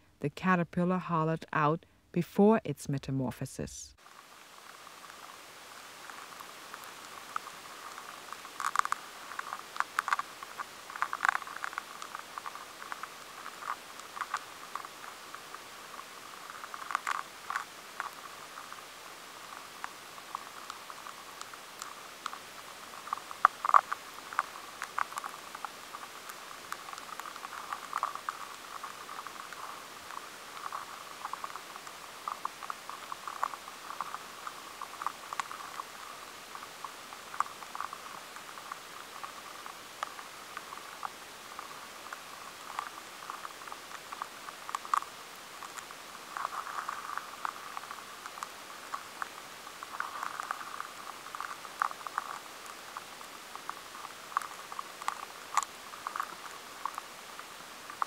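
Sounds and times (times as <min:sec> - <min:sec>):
faint hiss: 0:01.6 - 0:58.0
caterpillar feeding clicks and scrapes: 0:04.0 - 0:58.0
rapid ticks: 0:04.0 - 0:58.0.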